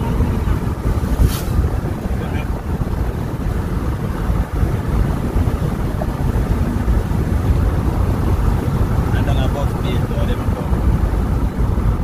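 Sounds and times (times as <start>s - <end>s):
car road rumble: 0.0s - 12.0s
wind noise on microphone: 0.0s - 12.0s.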